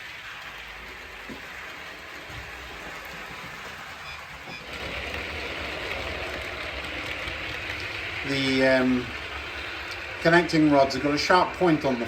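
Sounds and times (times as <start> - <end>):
model train rolling on track: 0.0 - 12.0.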